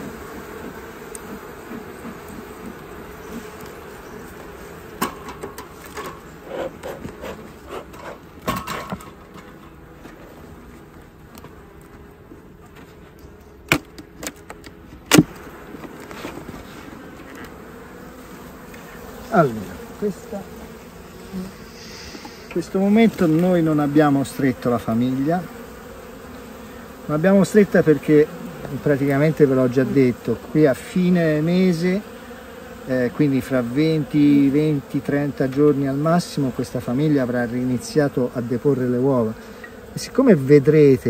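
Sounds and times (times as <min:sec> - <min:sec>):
buzz falling in pitch: 0:00.0 - 0:41.0
honeybees buzzing: 0:00.0 - 0:41.0.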